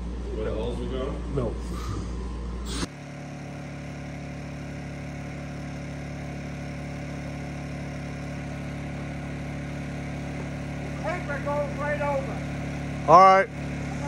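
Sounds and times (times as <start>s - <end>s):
small engine humming: 1.4s - 14.0s.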